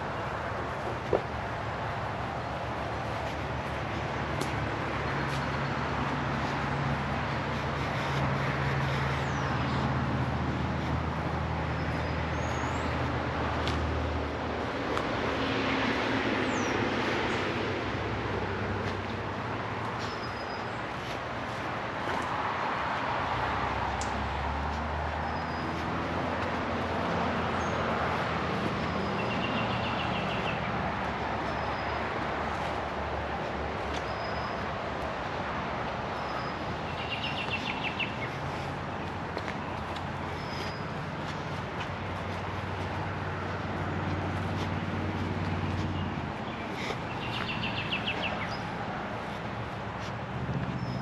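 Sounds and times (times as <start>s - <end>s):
road traffic rush: 0.0s - 51.0s
vehicle engine hum: 0.0s - 51.0s.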